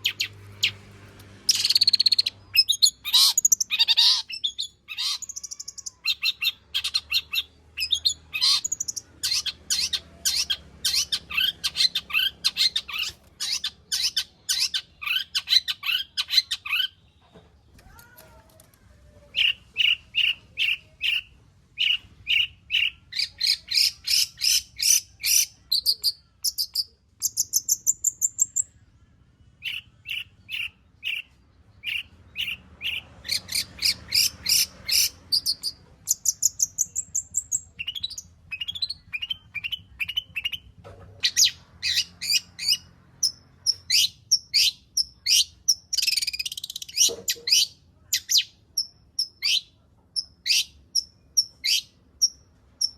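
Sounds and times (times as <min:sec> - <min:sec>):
shrike chirping and trilling: 0:00.0 - 0:17.1, 0:19.3 - 0:28.8, 0:29.6 - 0:52.9.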